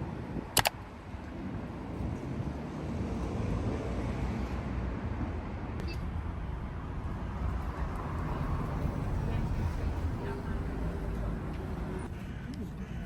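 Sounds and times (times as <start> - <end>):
vehicle rumbling: 0.0 - 13.0.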